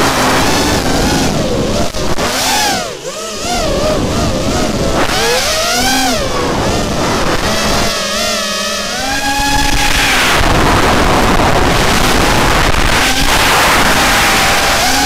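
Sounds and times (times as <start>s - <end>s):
loud rushing noise: 0.0s - 2.2s, 3.0s - 15.0s
quadcopter motors whining: 0.0s - 15.0s.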